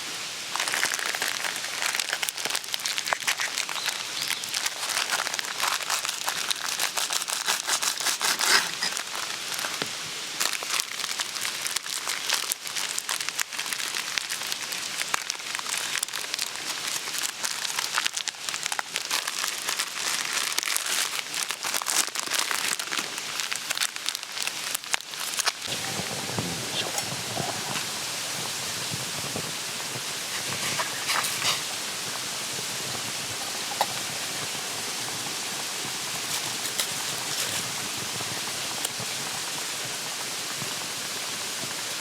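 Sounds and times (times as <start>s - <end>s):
campfire crackling and popping: 0.4s - 42.0s.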